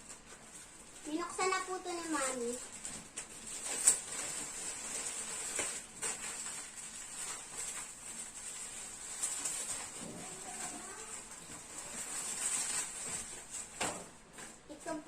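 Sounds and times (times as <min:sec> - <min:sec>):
faint rustling: 0:00.0 - 0:15.0.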